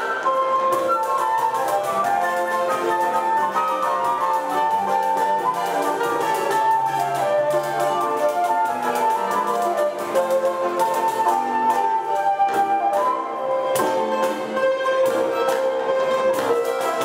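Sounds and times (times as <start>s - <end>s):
bandolim: 0.0s - 17.0s
flutes playing melody: 0.0s - 17.0s.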